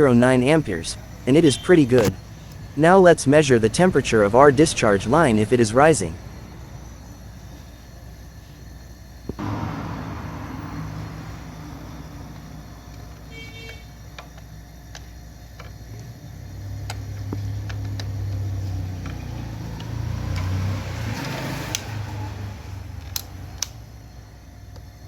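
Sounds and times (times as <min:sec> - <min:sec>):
refrigerator compressor humming: 0:00.0 - 0:25.0.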